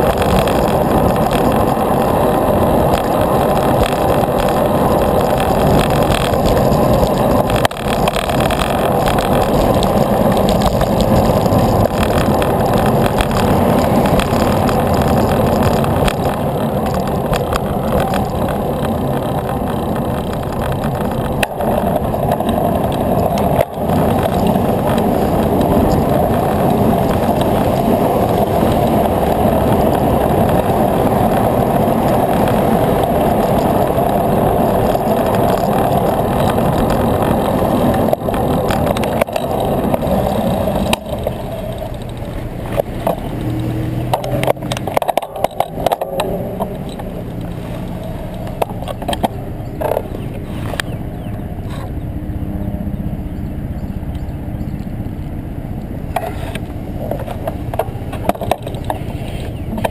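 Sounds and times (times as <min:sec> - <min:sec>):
bicycle tyres on road: 0:00.0 - 0:59.9.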